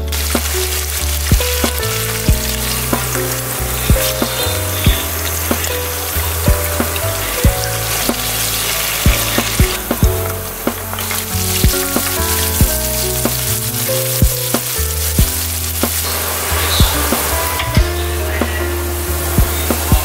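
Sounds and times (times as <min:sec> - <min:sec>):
meat sizzling in a frying pan: 0:00.0 - 0:18.0.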